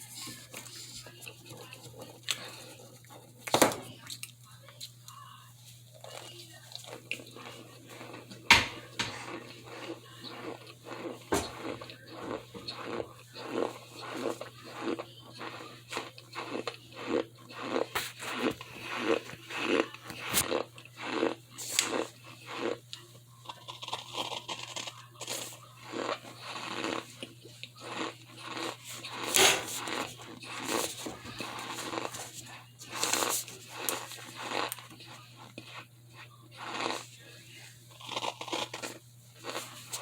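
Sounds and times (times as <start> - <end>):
crunching and chewing in mouth: 0.0 - 5.2, 5.8 - 40.0.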